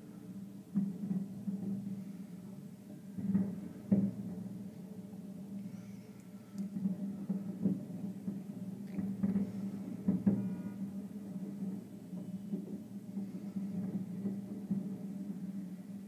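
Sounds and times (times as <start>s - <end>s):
distant fireworks booming: 0.0s - 16.0s.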